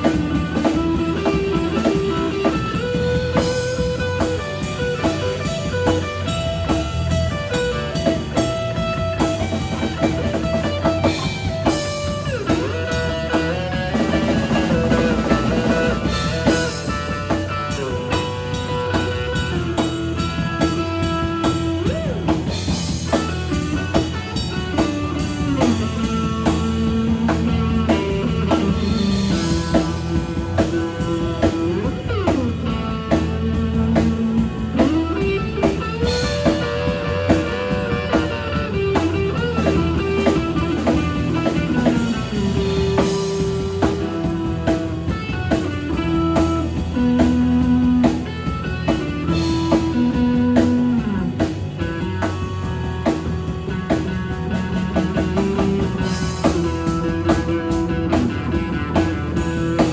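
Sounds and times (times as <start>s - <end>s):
drum kit: 0.0s - 59.9s
electric bass: 0.0s - 59.9s
electric guitar with bending notes: 0.0s - 59.9s.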